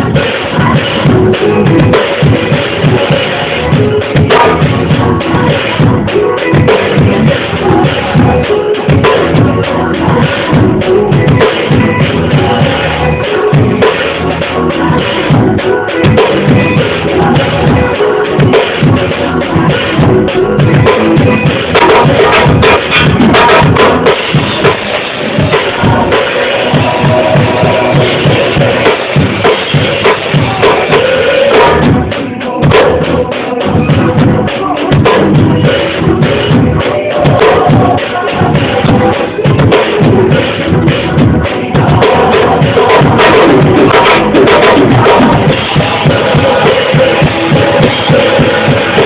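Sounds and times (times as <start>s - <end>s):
bass drum and snare hits: 0.0s - 49.0s
loud band music: 0.0s - 49.0s.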